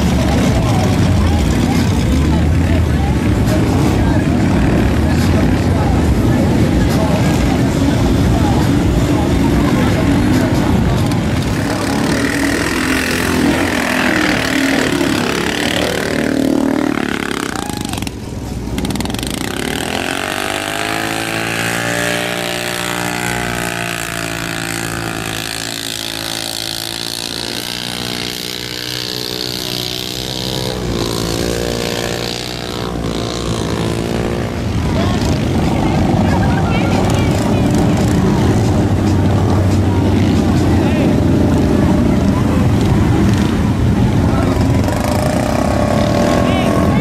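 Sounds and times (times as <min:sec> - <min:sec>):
off-road vehicle engines running: 0:00.0 - 0:47.0
quad bike engine drone: 0:00.0 - 0:47.0.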